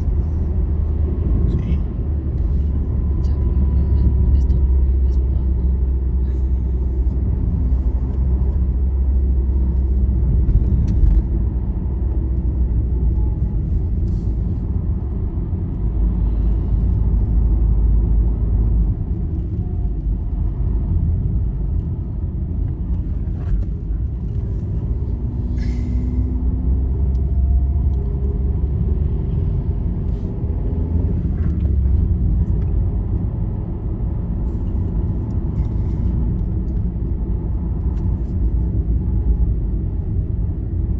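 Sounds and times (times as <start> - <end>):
vehicle cruising on highway: 0.0 - 40.9.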